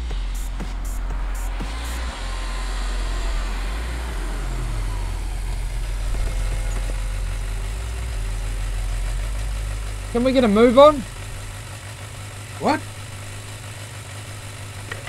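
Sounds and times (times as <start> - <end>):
motorcycle engine slowing to idle: 0.0 - 15.0.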